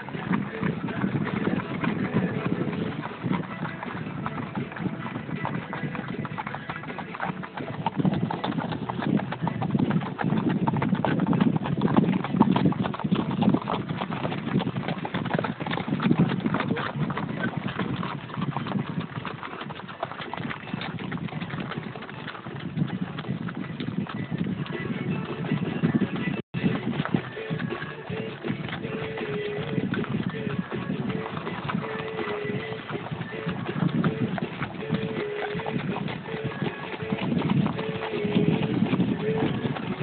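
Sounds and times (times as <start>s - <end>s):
horse hoofbeats on dirt: 0.0s - 40.0s.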